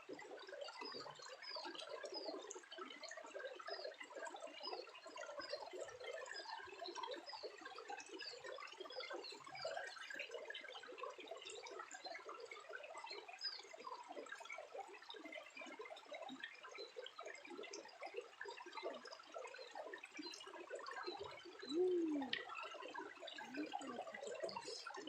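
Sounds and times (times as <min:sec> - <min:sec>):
water trickling and dripping: 0:00.0 - 0:25.0.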